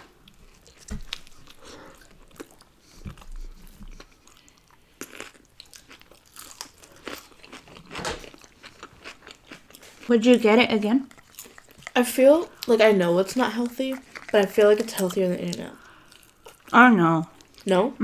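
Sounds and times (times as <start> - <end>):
person chewing crunchy food: 0.1 - 17.8.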